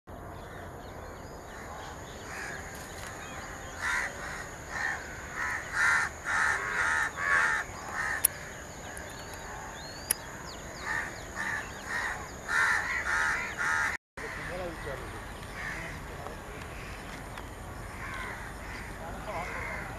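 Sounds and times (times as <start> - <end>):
harsh bird calls: 0.4 - 19.9.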